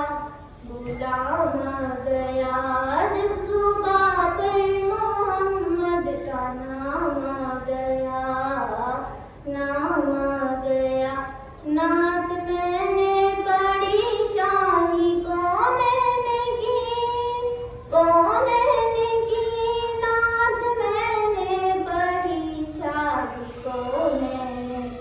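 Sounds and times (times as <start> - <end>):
girl singing into a microphone: 0.0 - 25.0.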